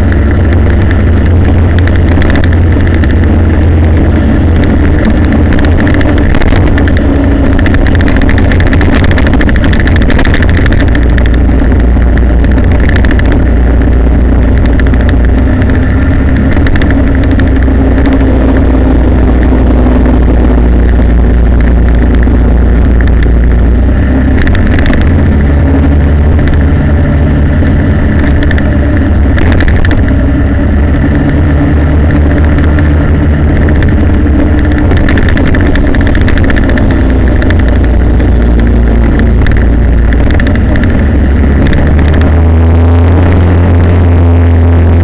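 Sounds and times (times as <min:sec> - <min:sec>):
heavy low rumble: 0:00.0 - 0:45.0
vehicle engine running: 0:00.0 - 0:45.0.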